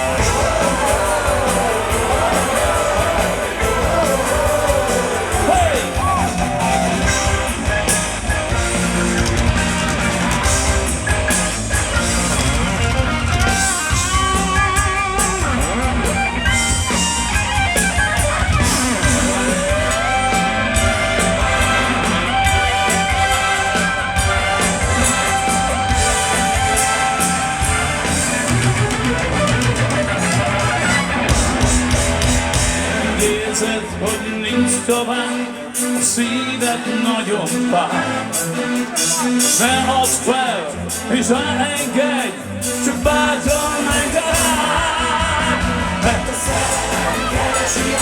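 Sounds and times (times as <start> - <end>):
live rock band: 0.0 - 48.0.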